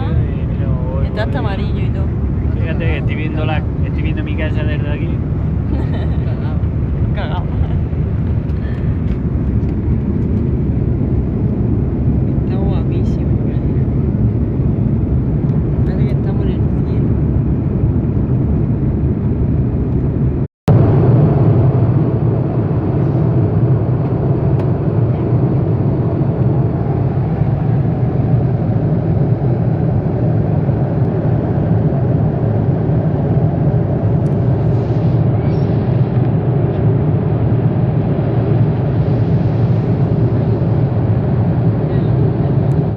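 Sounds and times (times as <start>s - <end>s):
airliner engine drone: 0.0s - 42.9s.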